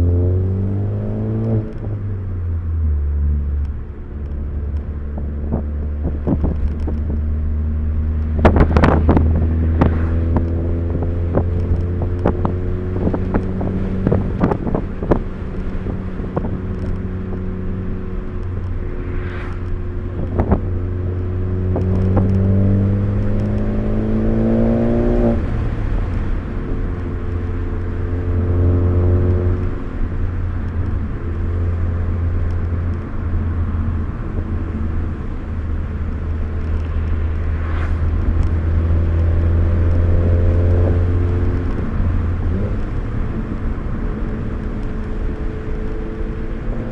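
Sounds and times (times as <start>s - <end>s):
car engine revving: 0.0s - 46.9s
road drone: 0.0s - 46.9s.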